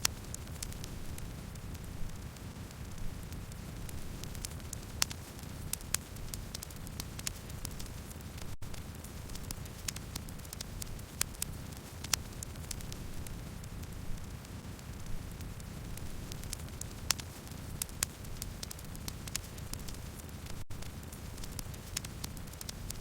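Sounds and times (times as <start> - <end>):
burning wood crackling and popping: 0.0 - 23.0
campfire flame rumble: 0.1 - 23.0.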